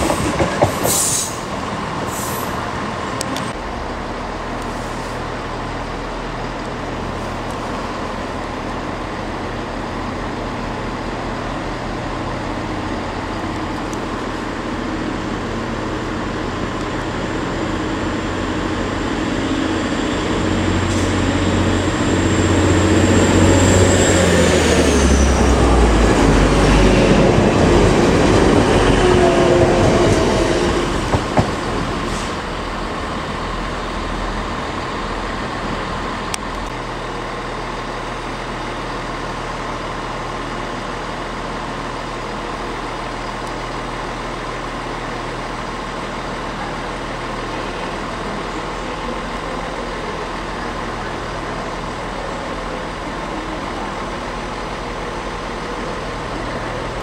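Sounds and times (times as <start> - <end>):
train passing at speed: 0.0 - 4.6, 5.3 - 57.0
distant trains rumble: 0.0 - 57.0.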